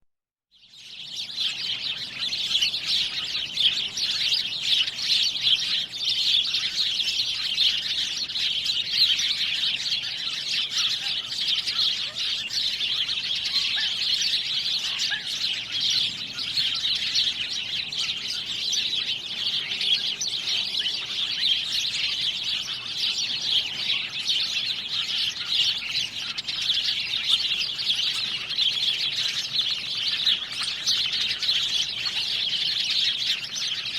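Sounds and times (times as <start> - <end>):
birds chirping: 0.5 - 33.9.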